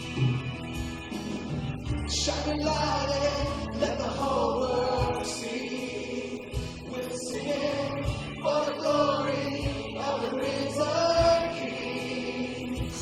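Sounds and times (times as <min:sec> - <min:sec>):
voices singing worship song: 0:01.8 - 0:13.0.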